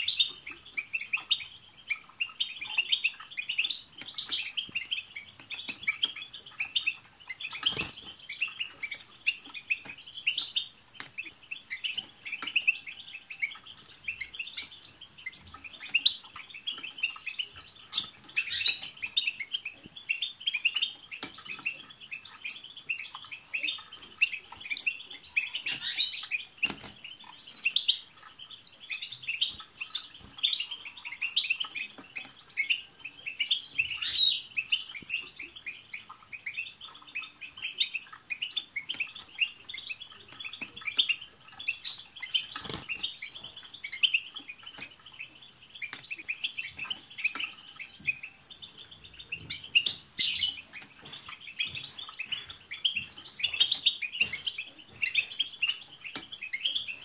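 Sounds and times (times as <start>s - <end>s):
finches chattering and twittering: 0.0s - 57.0s.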